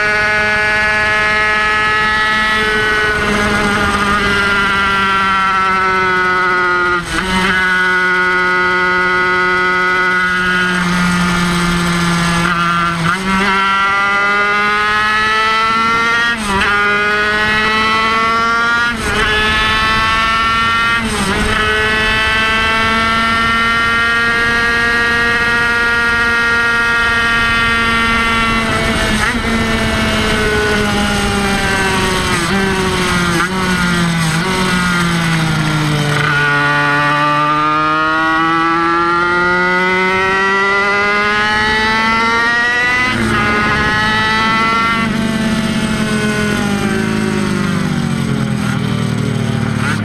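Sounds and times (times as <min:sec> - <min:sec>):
motorcycle engine at high revs: 0:00.0 - 0:50.0.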